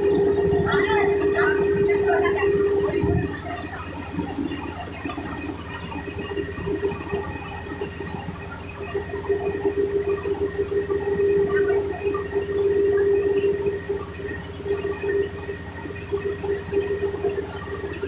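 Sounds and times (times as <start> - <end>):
combine harvester droning: 0.0 - 18.0.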